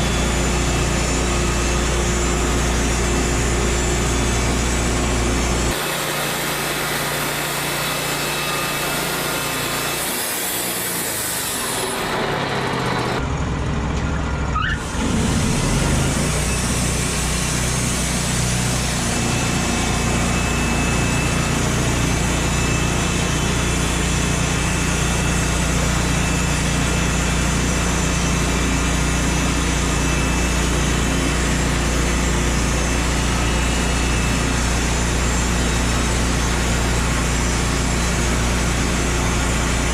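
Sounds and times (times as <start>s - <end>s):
machinery engine running: 0.0s - 39.9s.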